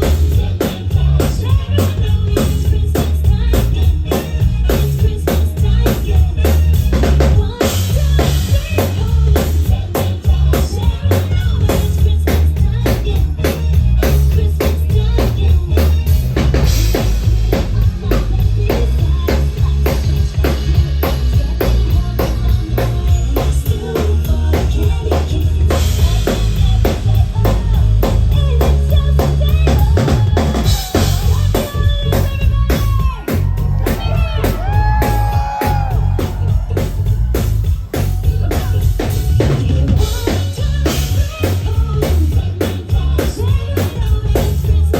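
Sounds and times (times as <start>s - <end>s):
amplified band music: 0.0s - 44.9s
drum kit beat: 0.0s - 44.9s.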